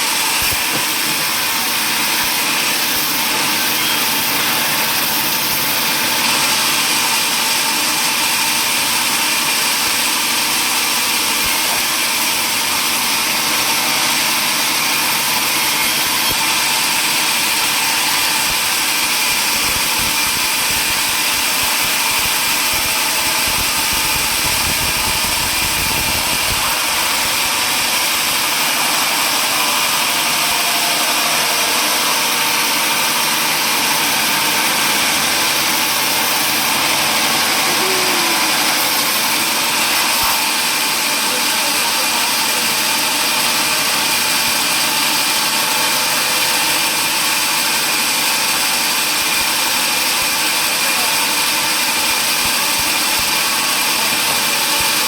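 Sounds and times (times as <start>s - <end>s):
table saw running: 0.0s - 55.0s.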